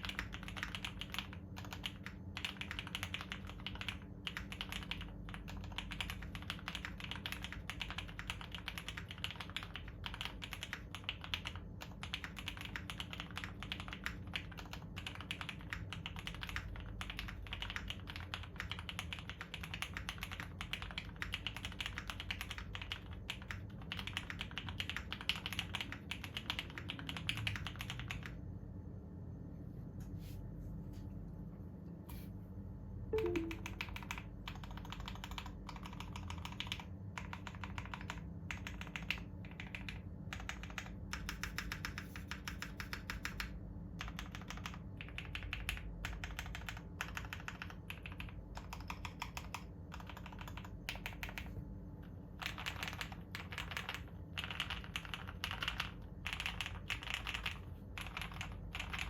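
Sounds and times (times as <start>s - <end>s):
fast typing on mechanical keyboard: 0.0s - 28.6s, 33.2s - 59.0s.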